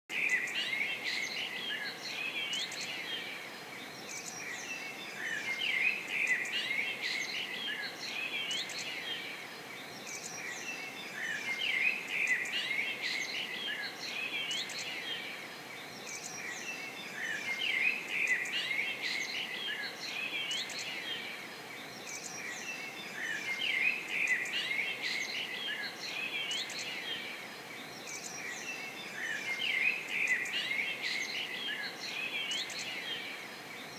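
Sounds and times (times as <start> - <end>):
small birds chirping and singing: 0.1 - 33.9.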